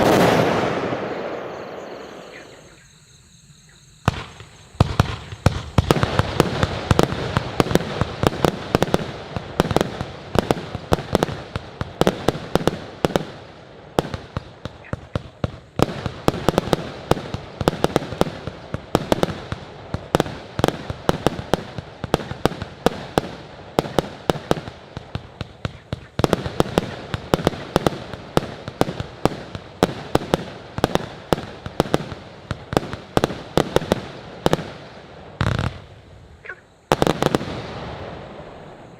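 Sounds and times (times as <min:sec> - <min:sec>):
firework crackle: 0:00.0 - 0:02.6, 0:04.0 - 0:38.9
firework bangs: 0:00.0 - 0:02.7, 0:04.0 - 0:36.2, 0:36.9 - 0:38.9.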